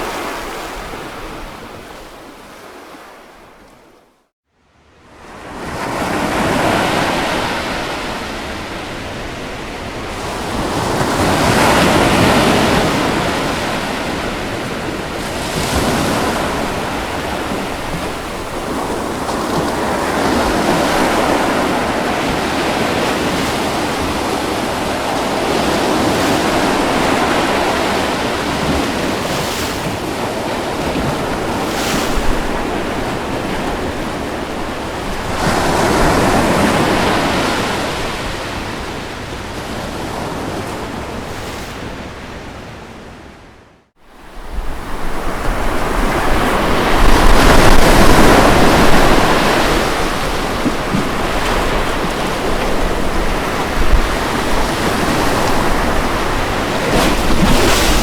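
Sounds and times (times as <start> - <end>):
ocean waves breaking: 0.0 - 4.0, 5.1 - 58.0.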